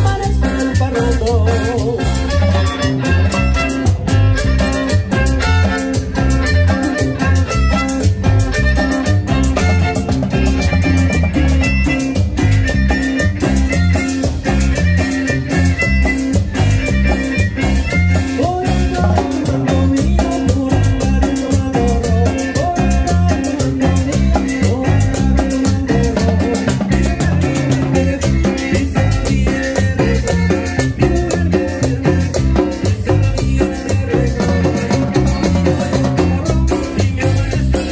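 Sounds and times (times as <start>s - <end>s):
congas: 0.0s - 37.9s
drum kit: 0.0s - 37.9s
electric guitar: 0.0s - 37.9s
keyboard: 0.0s - 37.9s.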